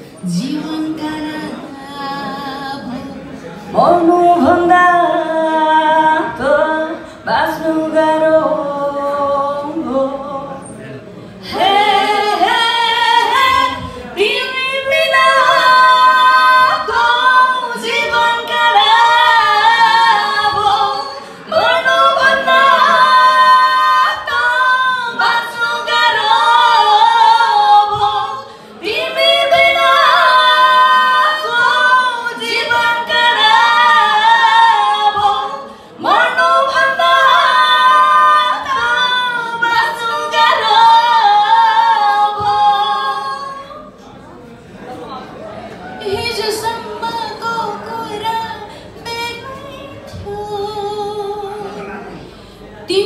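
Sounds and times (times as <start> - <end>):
women singing: 0.0 - 10.8, 11.4 - 44.2, 46.0 - 52.2.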